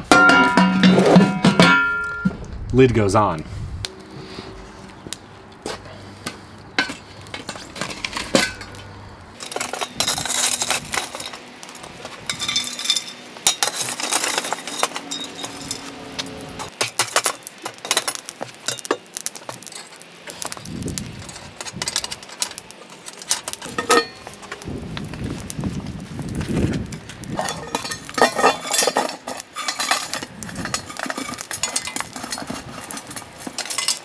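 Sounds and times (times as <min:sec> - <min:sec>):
charcoal clinking on metal: 0:00.0 - 0:02.3, 0:06.8 - 0:24.7, 0:26.4 - 0:34.0
shovel scraping coals: 0:00.0 - 0:02.4, 0:03.8 - 0:34.0.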